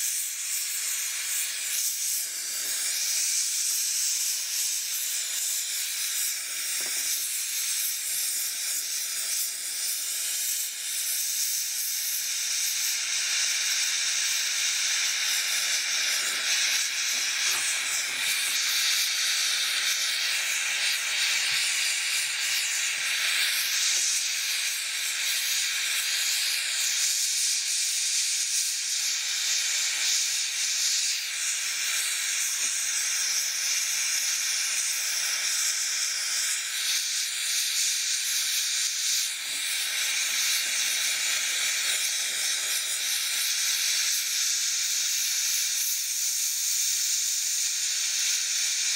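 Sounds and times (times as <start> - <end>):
torch flame hissing: 0.0 - 48.9.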